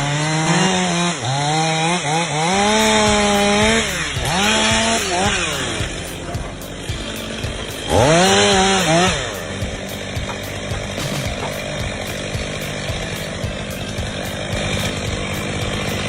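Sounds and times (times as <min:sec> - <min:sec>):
chainsaw revving and running: 0:00.0 - 0:16.0.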